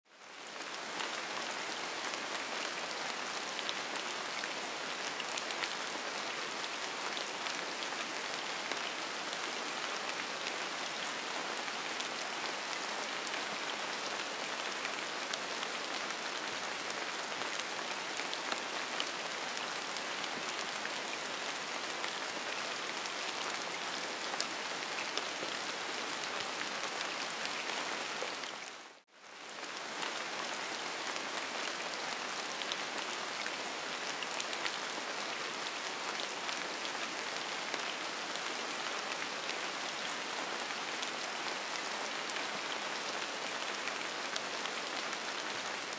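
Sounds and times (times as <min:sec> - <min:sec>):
steady rain: 0:00.1 - 0:45.9.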